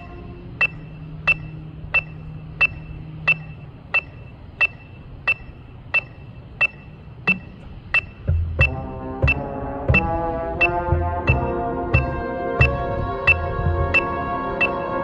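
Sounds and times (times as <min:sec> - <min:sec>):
electronic metronome clicking: 0:00.0 - 0:15.0.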